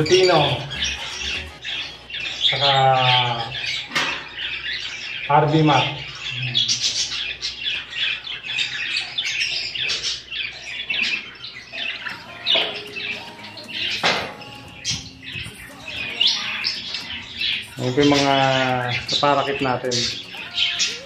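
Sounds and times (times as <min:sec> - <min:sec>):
budgerigars chirping and squawking: 0:00.0 - 0:21.0
loud bird calls: 0:00.0 - 0:21.0.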